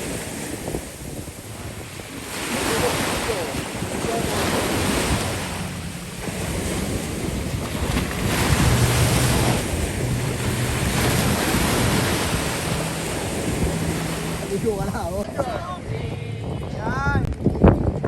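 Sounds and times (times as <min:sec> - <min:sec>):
ocean surf breaking: 0:00.0 - 0:17.3
wind buffeting microphone: 0:00.0 - 0:18.0.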